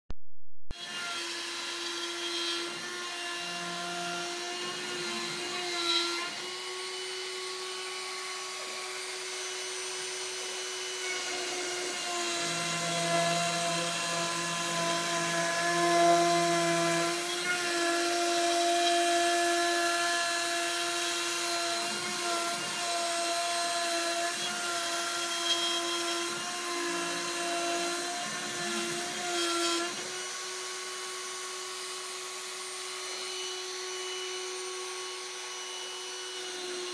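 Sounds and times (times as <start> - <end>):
router spindle whine: 0.8 - 36.9.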